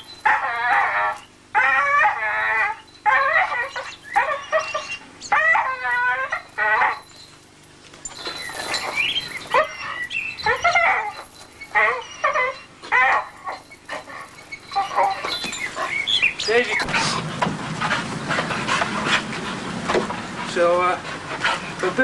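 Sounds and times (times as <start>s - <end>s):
dog whining and yelping: 0.0s - 19.3s.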